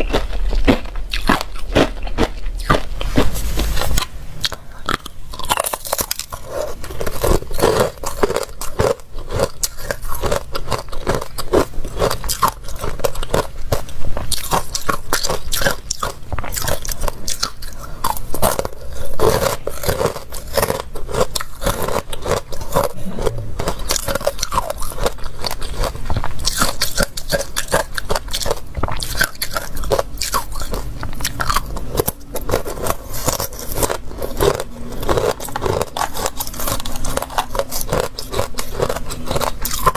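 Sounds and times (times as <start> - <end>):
person chewing crunchy ice: 0.0 - 39.9.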